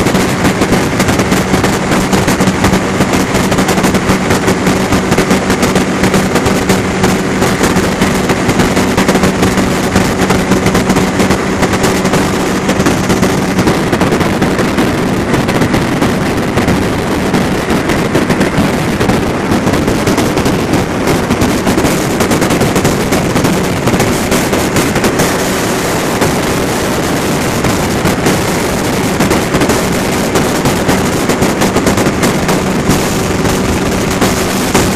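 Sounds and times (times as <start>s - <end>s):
aircraft engine and propeller droning: 0.0s - 34.9s
wind buffeting microphone: 0.0s - 34.9s.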